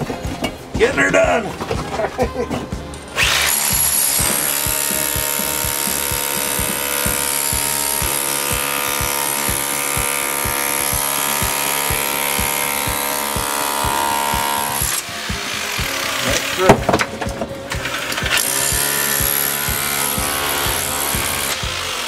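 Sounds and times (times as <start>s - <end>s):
power drill drilling into brick: 3.2s - 16.8s, 17.7s - 22.0s.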